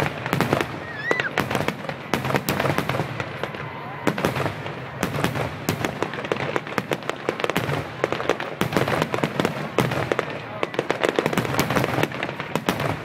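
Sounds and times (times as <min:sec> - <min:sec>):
fireworks cracking and popping: 0:00.0 - 0:13.0
fireworks crackle: 0:00.0 - 0:13.0.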